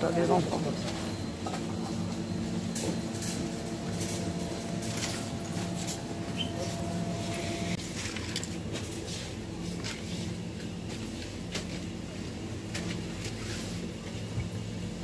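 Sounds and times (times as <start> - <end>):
machinery humming: 0.0 - 13.2.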